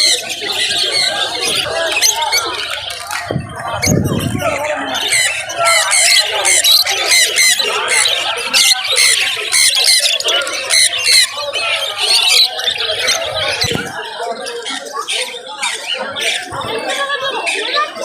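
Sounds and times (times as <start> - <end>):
caged birds chirping and squawking: 0.0 - 18.0.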